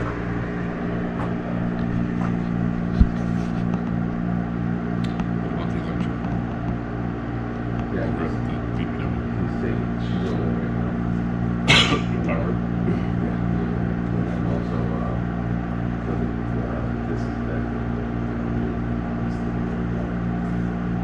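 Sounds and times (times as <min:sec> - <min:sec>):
electrical equipment hum: 0:00.0 - 0:21.0.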